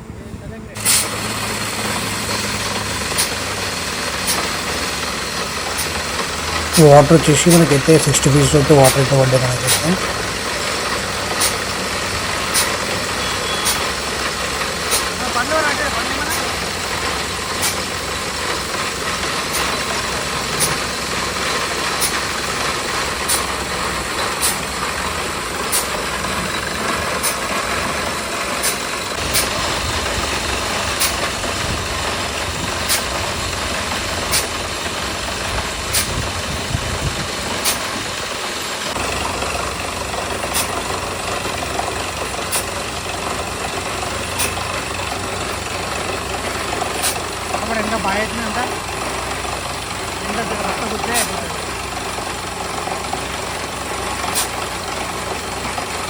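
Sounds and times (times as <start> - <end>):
drilling rig engine running: 0.0 - 56.0.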